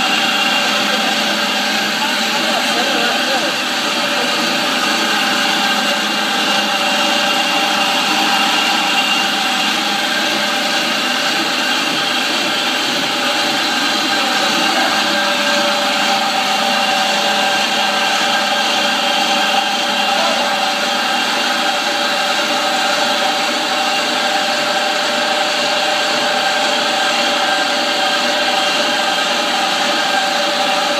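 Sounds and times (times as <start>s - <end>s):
floor grinding machine humming: 0.0s - 30.9s.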